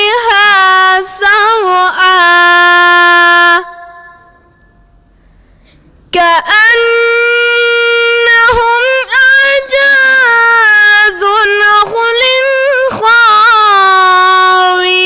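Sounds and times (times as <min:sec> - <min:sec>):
boy chanting melodically: 0:00.0 - 0:04.5, 0:06.1 - 0:15.0.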